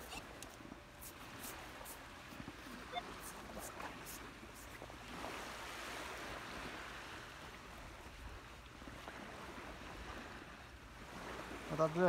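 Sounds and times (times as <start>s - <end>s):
sea surf washing on beach: 0.0s - 12.0s.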